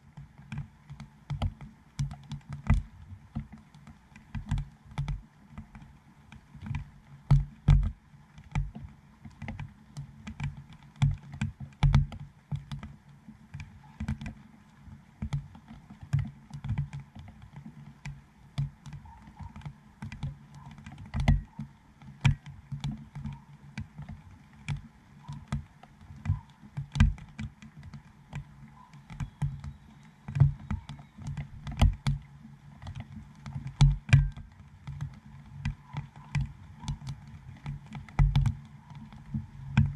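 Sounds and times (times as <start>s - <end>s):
raindrops tapping on plastic: 0.0s - 39.9s.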